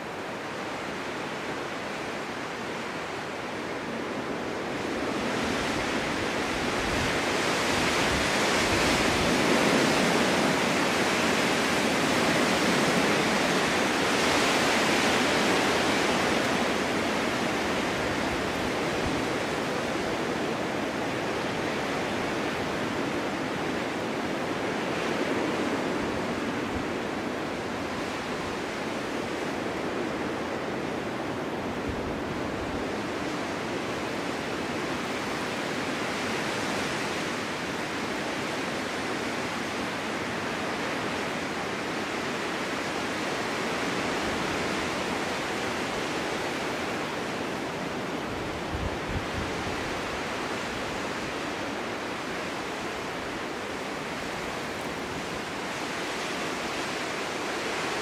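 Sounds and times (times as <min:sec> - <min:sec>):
storm wind blowing: 0:00.0 - 0:58.0.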